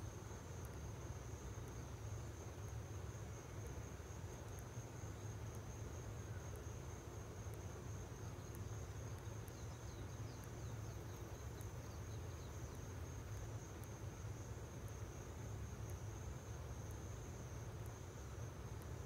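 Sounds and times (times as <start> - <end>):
insect trill: 0.1 - 19.0.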